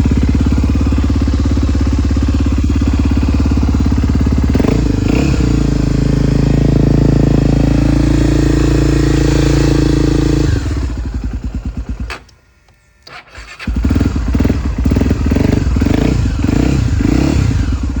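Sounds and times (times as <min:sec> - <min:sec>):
motorcycle engine running: 0:00.0 - 0:12.3, 0:13.3 - 0:18.0
motorcycle engine idling unevenly: 0:00.0 - 0:12.8, 0:13.4 - 0:18.0.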